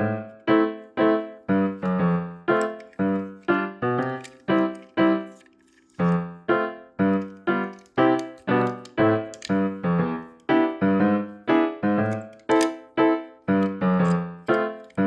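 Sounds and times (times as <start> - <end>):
piano-like keyboard chords: 0.0 - 15.0.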